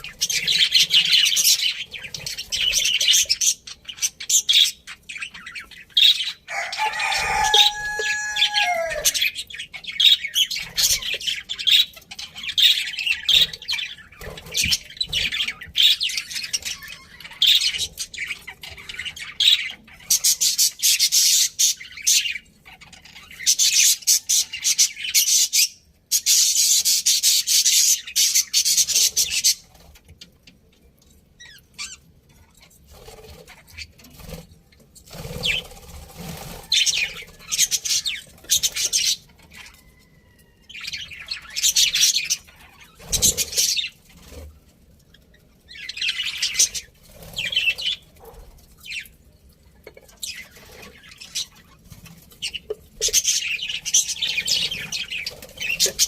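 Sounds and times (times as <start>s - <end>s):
budgerigars chattering and chirping: 0.0s - 30.0s, 31.4s - 39.9s, 40.7s - 44.4s, 45.7s - 49.2s, 50.0s - 56.0s.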